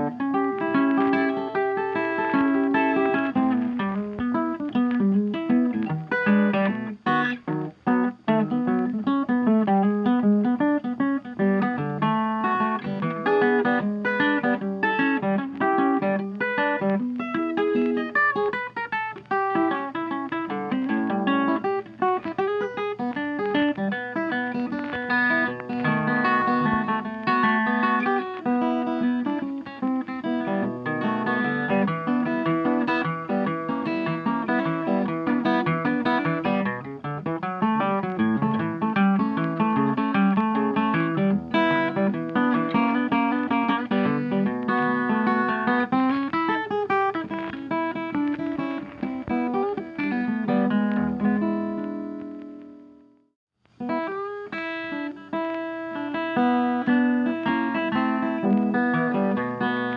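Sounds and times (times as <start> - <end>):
blues guitar music: 0.0 - 59.9.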